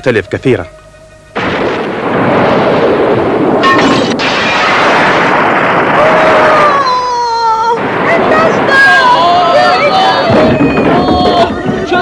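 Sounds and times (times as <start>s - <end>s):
cartoon explosion blast and rumble: 1.4s - 12.0s.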